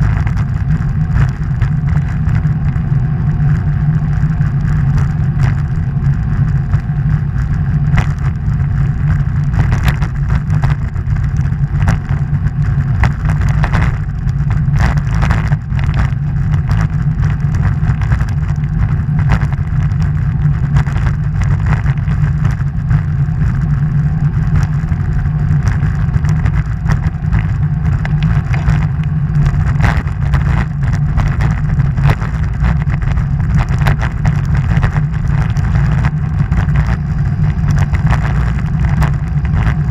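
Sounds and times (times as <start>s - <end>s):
short crackles: 0.0s - 39.9s
wind rumbling on microphone: 0.0s - 39.9s.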